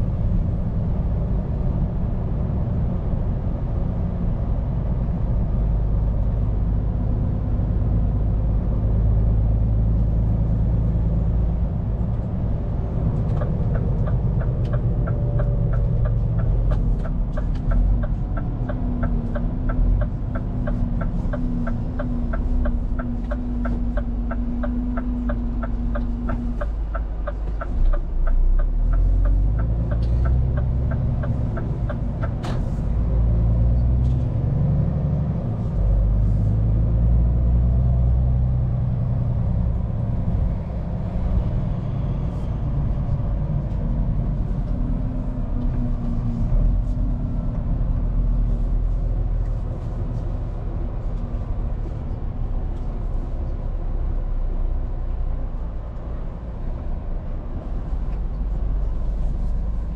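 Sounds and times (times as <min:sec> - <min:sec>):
truck diesel engine: 0:00.0 - 0:59.9.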